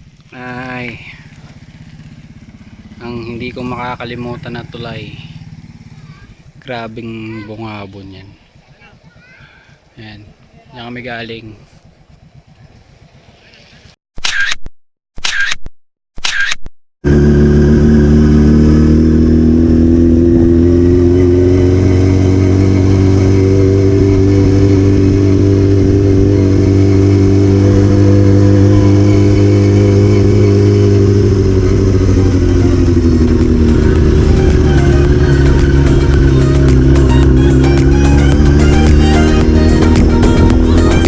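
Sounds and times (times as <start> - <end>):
motorcycle engine running: 0.0 - 14.0, 17.0 - 41.0.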